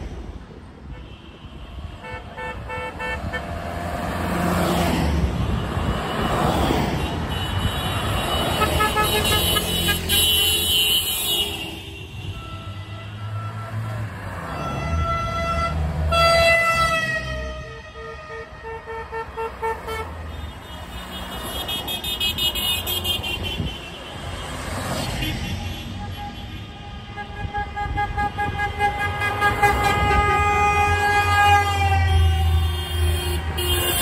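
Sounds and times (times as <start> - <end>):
vehicle engines: 0.0 - 34.0
car horns honking: 0.8 - 4.4, 5.2 - 34.0.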